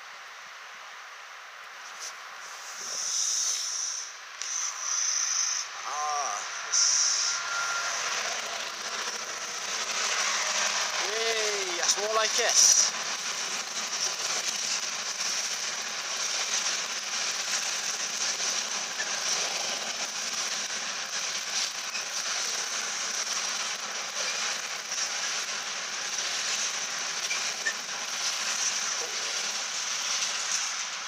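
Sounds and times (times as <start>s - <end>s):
train wheels on rails: 1.8s - 31.0s.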